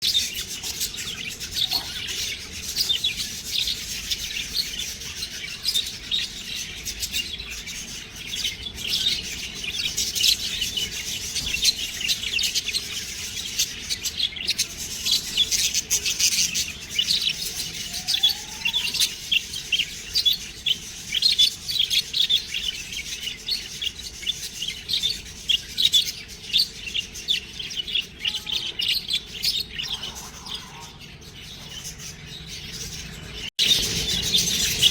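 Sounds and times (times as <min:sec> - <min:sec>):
budgerigars chirping: 0:00.0 - 0:34.9.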